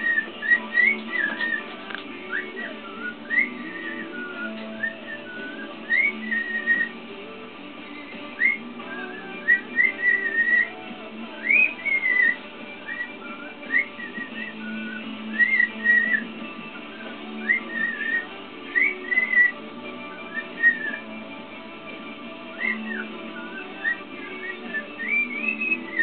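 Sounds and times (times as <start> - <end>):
cockatiel whistling: 0.0 - 7.0, 7.8 - 10.8, 11.4 - 21.4, 22.1 - 26.0
background music: 0.0 - 26.0.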